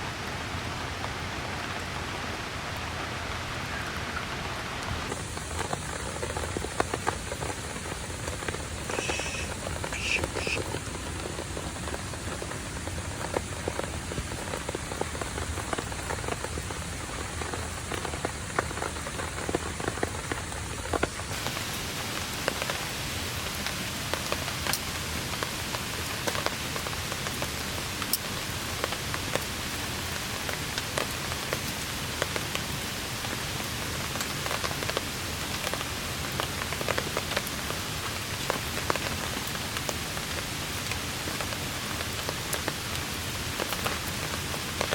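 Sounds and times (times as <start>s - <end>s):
rain falling on a tarp: 0.0s - 44.9s.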